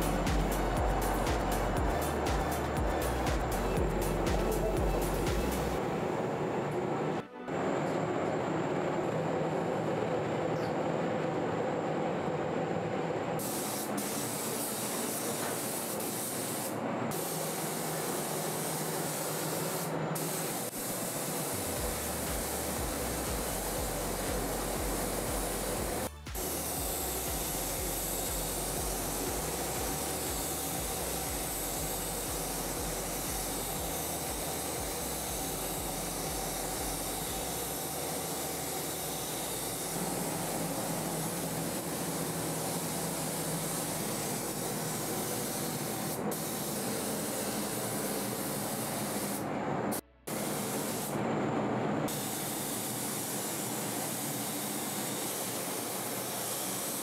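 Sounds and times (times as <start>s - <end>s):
spray gun hissing: 0.0s - 5.8s, 13.4s - 49.5s, 50.3s - 51.2s, 52.1s - 57.0s.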